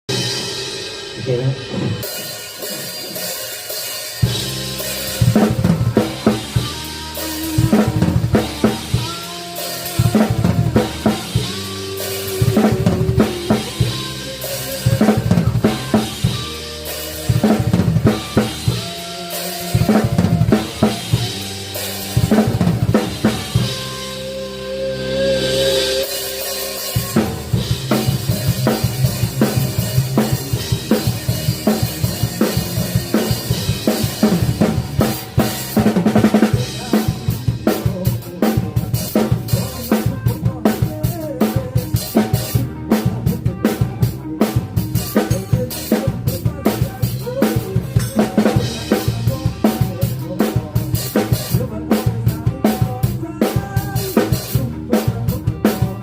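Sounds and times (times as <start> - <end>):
rock drum kit beat: 0.0 - 56.0.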